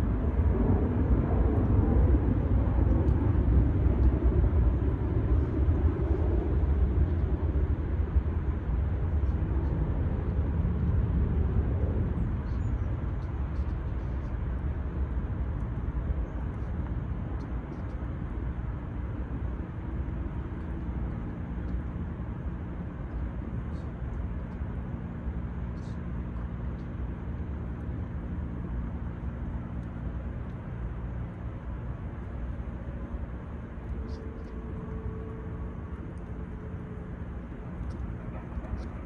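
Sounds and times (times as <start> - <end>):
jet airliner rumble: 0.0 - 39.0.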